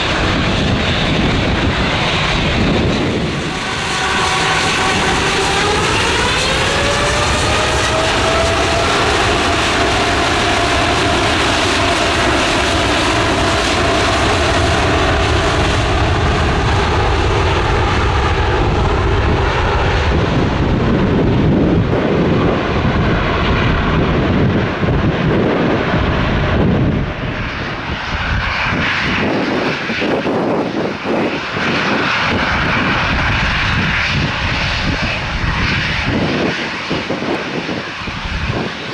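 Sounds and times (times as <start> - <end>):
deep broad jet rumble: 0.0 - 38.9
jet engine whine: 0.0 - 38.9.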